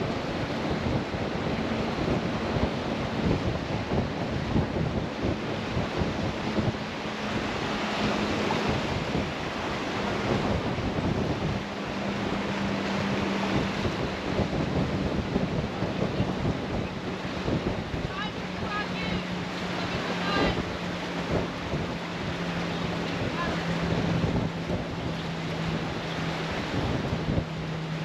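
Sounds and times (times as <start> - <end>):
waves on water: 0.0 - 28.0
wind buffeting microphone: 0.0 - 28.0.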